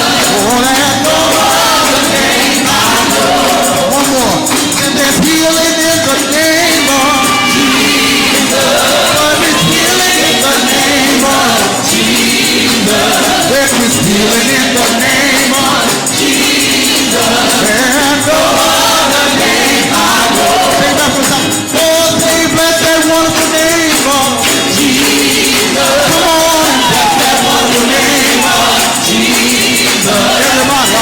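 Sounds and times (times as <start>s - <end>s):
gospel singing: 0.0s - 31.0s
instrumental accompaniment: 0.0s - 31.0s
tambourine shaking: 0.0s - 31.0s.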